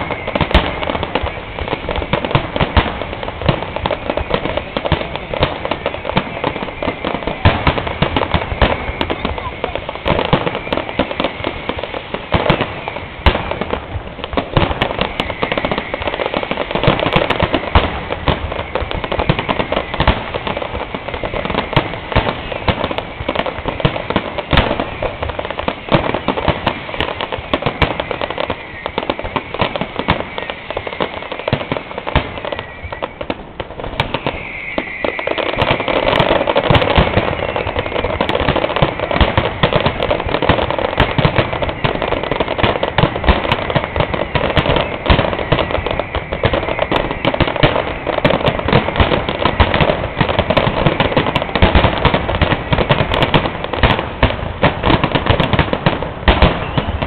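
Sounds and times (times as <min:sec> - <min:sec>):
fireworks bangs and crackling: 0:00.0 - 0:57.0
whistling firework shells: 0:00.0 - 0:57.0.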